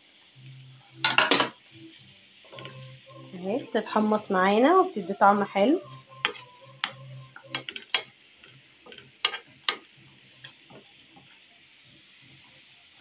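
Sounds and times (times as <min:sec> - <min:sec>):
oil sizzling: 0:00.0 - 0:13.0.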